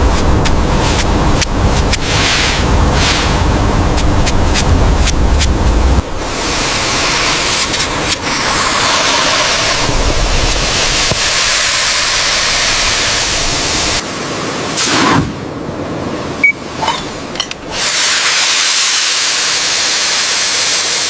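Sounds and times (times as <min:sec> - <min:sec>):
pressurised spray hissing: 0:00.0 - 0:14.0, 0:17.7 - 0:21.0.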